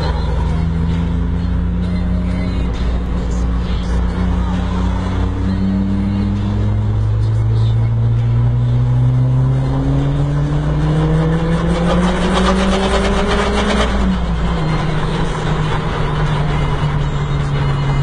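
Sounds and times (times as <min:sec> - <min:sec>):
turbocharged engine pulling: 0:00.0 - 0:18.0.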